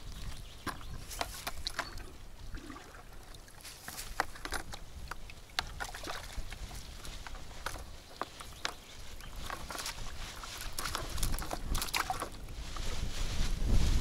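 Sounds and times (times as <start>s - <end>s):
water splashing and dripping: 0.0s - 12.4s.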